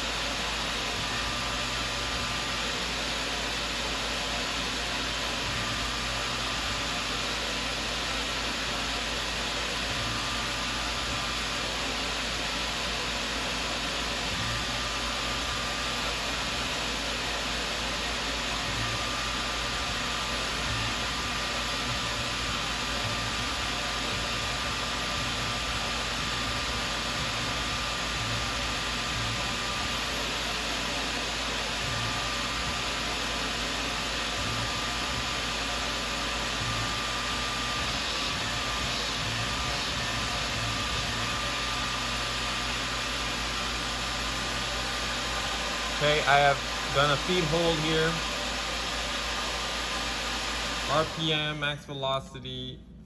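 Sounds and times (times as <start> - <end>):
milling machine spindle whirring: 0.0 - 51.6.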